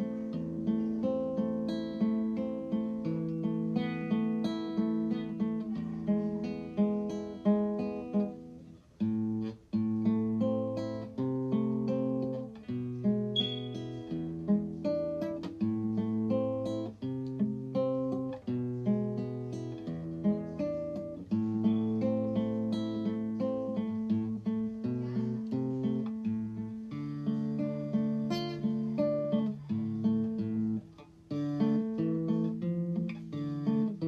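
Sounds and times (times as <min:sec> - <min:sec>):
plucked acoustic guitar tune: 0:00.0 - 0:34.0.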